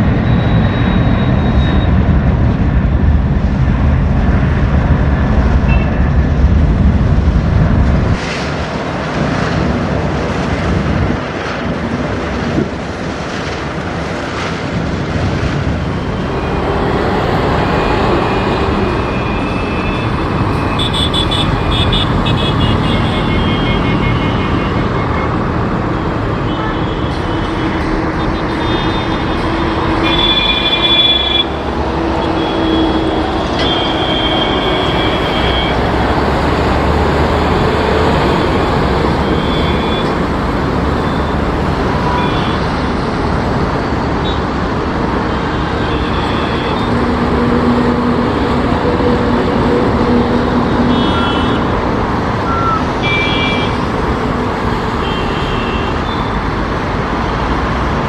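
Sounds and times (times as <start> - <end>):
jet airliner engines rumbling: 0.0 - 56.4
road traffic: 0.0 - 58.0.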